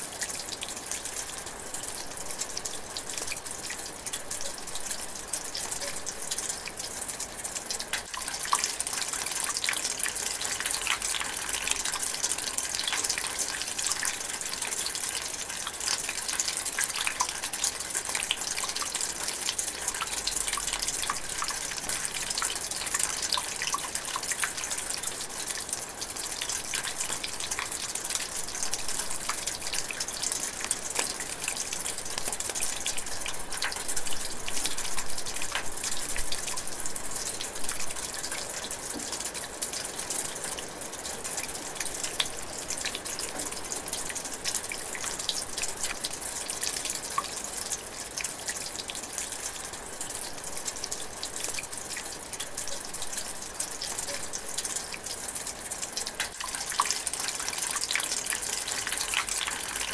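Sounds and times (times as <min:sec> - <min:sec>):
light rain patter: 0:00.0 - 0:59.9.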